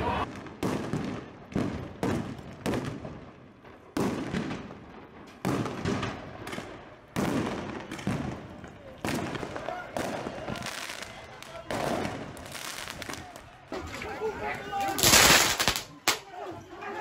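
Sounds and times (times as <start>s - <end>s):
fireworks bangs echoing: 0.2s - 13.8s, 14.9s - 16.3s.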